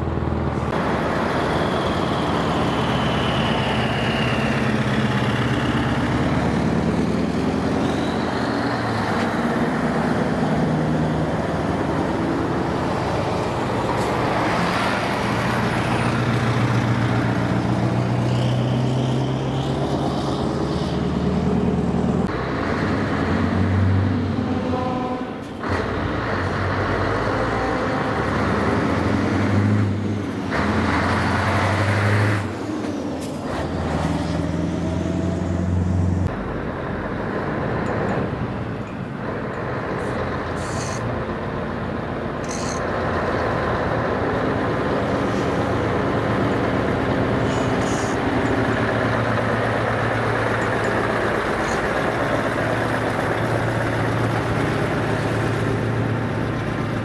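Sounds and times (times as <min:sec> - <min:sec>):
diesel truck engines running: 0:00.0 - 0:57.0.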